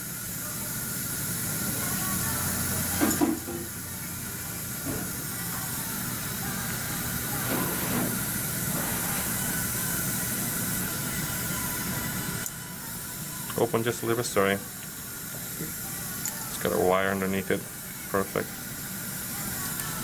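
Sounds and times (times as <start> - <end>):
dental suction hiss: 0.0 - 20.0.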